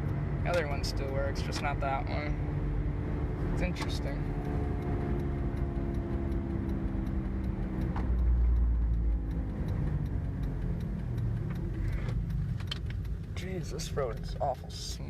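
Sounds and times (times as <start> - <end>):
engine and road rumble: 0.0 - 15.0
turn signal flasher ticking: 0.0 - 15.0.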